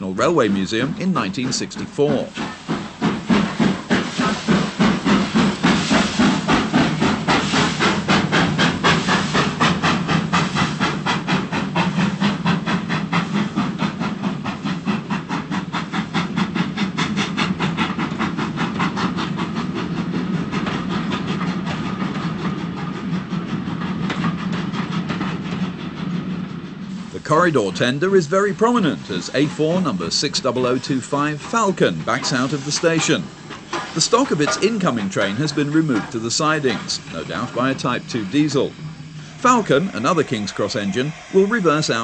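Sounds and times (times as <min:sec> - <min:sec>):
steam locomotive chuffing: 0:00.0 - 0:42.0
train rolling: 0:00.0 - 0:42.0.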